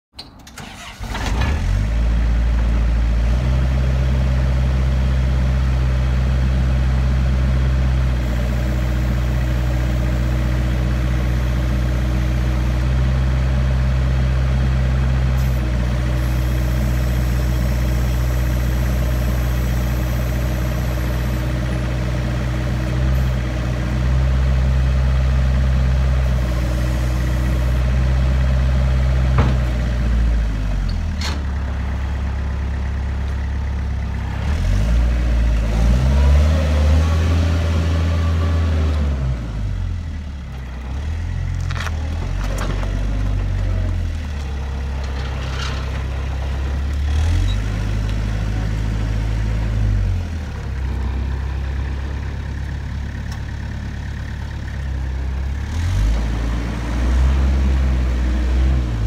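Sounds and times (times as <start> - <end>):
diesel dumper engine running: 0.2 - 59.0.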